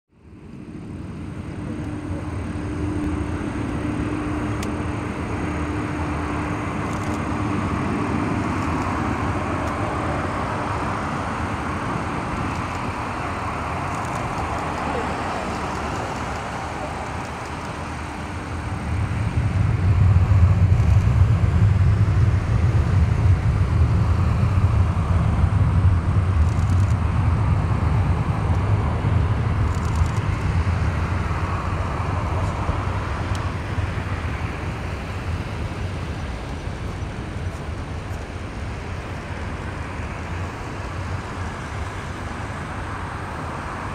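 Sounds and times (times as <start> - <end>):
deep jet engine rumble: 0.1 - 43.9
jet engine rushing: 0.3 - 43.9.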